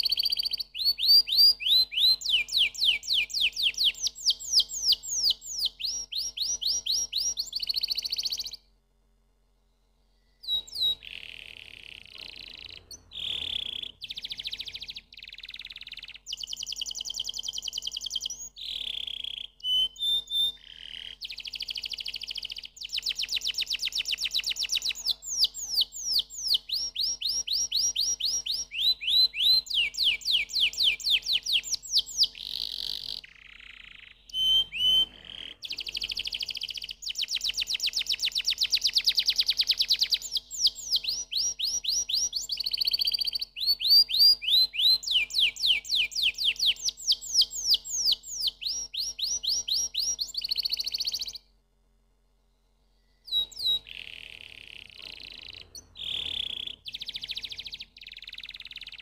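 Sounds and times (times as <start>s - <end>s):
canary singing trills: 0.0s - 8.7s, 10.2s - 51.4s, 53.0s - 59.0s.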